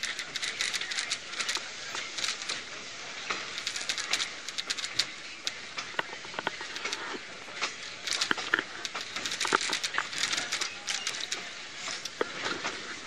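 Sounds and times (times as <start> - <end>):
railway car clicking and rattling: 0.0 - 13.0.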